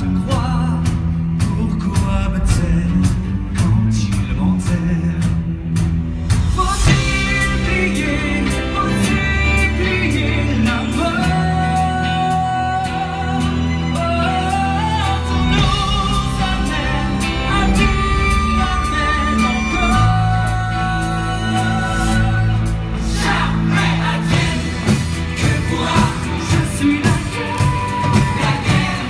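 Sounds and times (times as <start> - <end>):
man singing: 0.0 - 5.8, 6.4 - 29.0
live band playing: 0.0 - 29.0.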